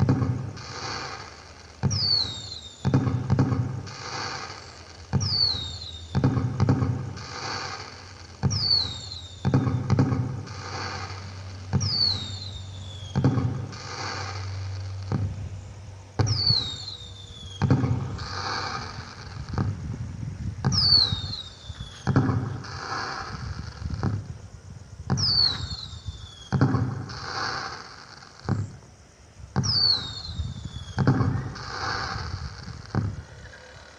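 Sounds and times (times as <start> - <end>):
falling firework whistles: 0.0 - 33.9
firework bangs: 0.0 - 33.9
firework crackling: 0.0 - 33.9.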